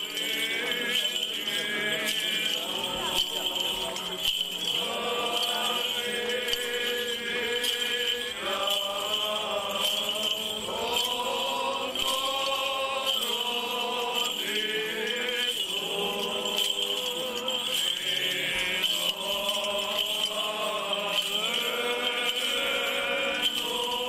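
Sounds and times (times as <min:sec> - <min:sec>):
group of voices chanting: 0:00.0 - 0:24.0.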